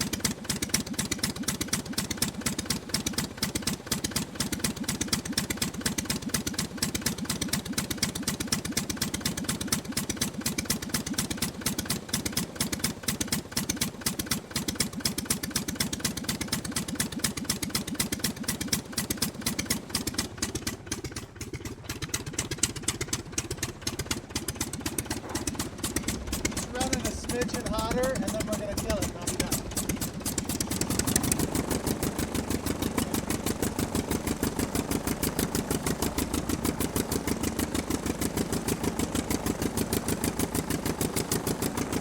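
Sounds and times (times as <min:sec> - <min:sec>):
aircraft engine running: 0:00.0 - 0:42.0.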